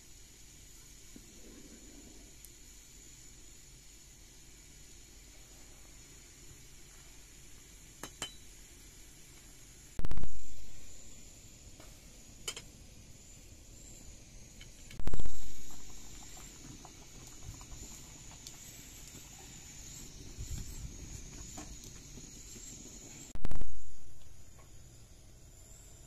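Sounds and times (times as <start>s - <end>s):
faint high hiss: 0.0s - 26.0s
wood fire crackling: 2.3s - 24.7s.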